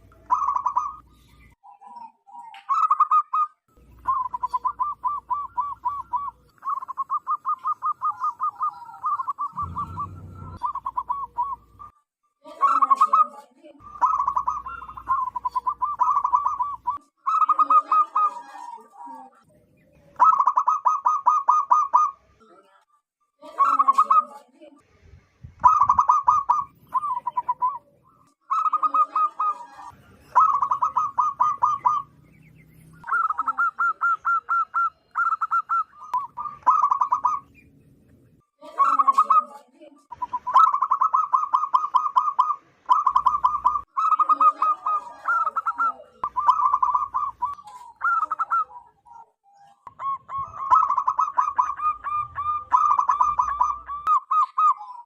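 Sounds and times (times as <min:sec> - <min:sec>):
doves cooing: 0:00.0 - 0:12.0, 0:12.6 - 0:22.3, 0:25.6 - 0:37.7, 0:38.7 - 0:55.0.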